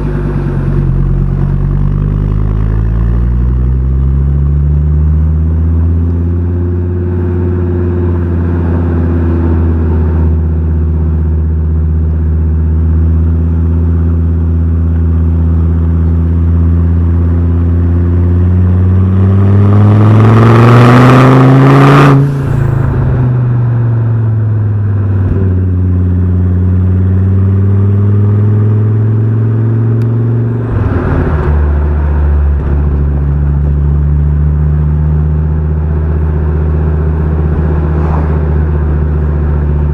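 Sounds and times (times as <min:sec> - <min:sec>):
turbocharged car engine accelerating: 0:00.0 - 0:39.9.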